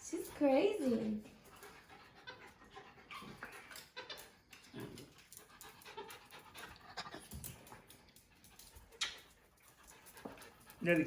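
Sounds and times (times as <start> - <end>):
dog panting softly: 0.0 - 11.0.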